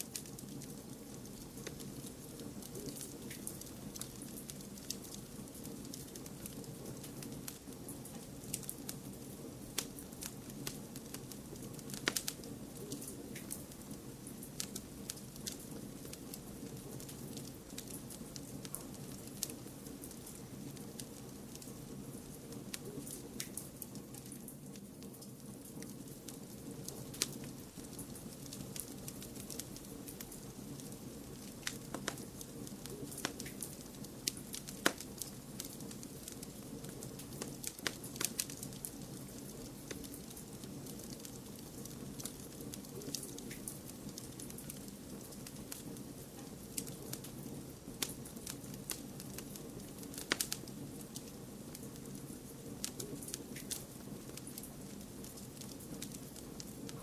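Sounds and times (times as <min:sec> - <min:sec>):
wood fire crackling: 0:00.0 - 0:57.0
fire popping: 0:00.1 - 0:57.0.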